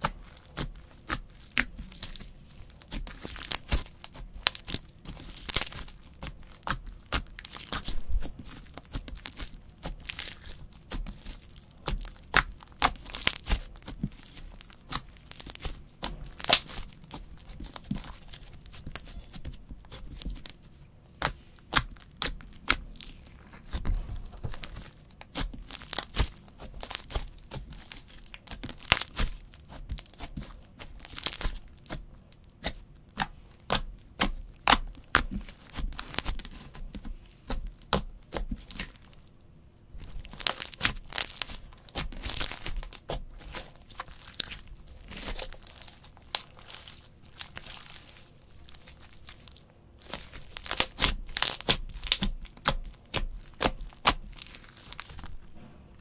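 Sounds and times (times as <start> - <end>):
slime crackling and popping: 0.0 - 56.0.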